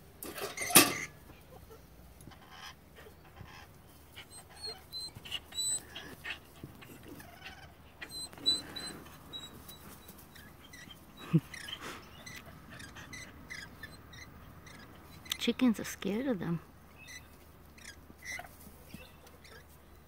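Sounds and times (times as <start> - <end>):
birds chirping and peeping: 2.3 - 16.2, 16.8 - 20.0.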